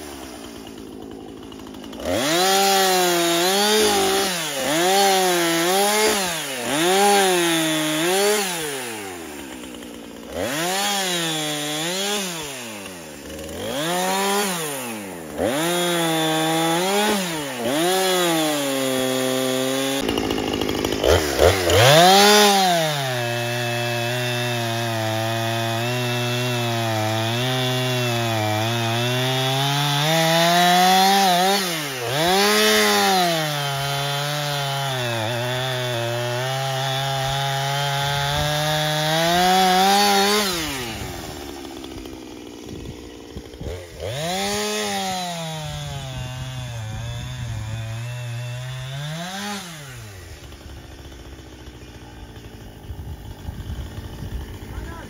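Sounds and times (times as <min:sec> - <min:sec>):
chainsaw revving and cutting wood: 0:00.0 - 0:55.0.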